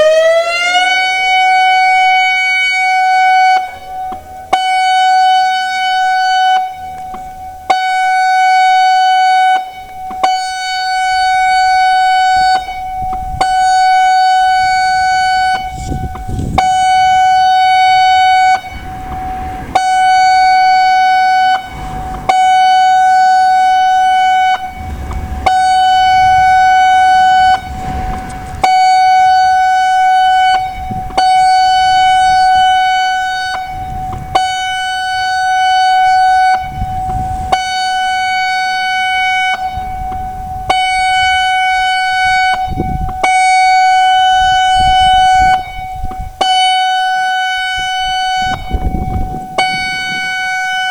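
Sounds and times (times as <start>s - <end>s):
warning siren electronic tone: 0.0s - 50.9s.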